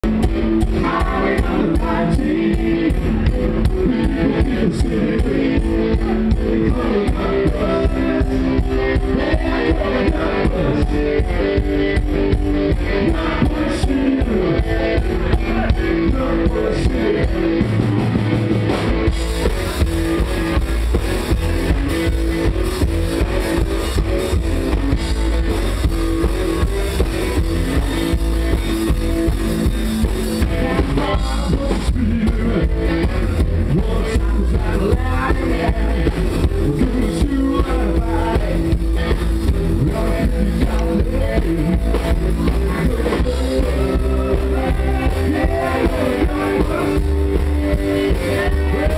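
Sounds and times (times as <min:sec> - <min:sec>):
drum kit beat: 0:00.0 - 0:48.9
electric guitar: 0:00.0 - 0:48.9
upright double bass: 0:00.0 - 0:48.9.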